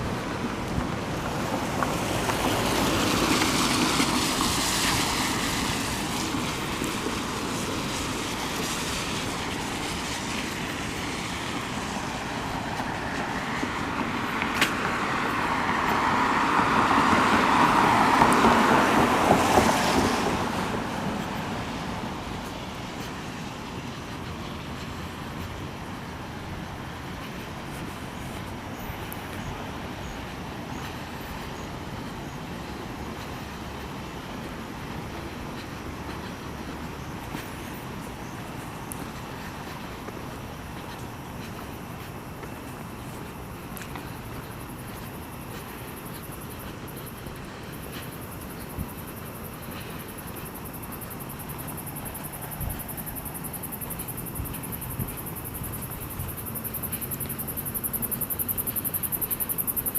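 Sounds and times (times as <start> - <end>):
steady road noise: 0.0 - 59.9
vehicles passing by: 0.0 - 59.9.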